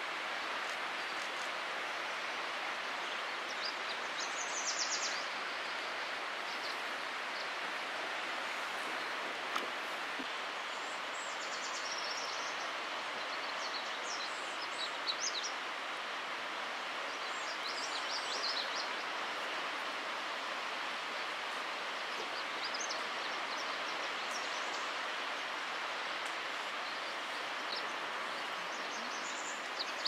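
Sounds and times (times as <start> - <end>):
outdoor background hiss: 0.0 - 30.0
songbirds twittering: 2.9 - 15.6, 16.9 - 30.0.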